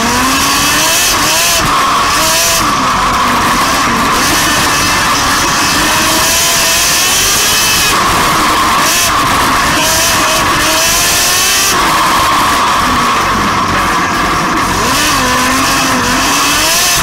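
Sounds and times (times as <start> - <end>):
lawn mower engines racing: 0.0 - 17.0.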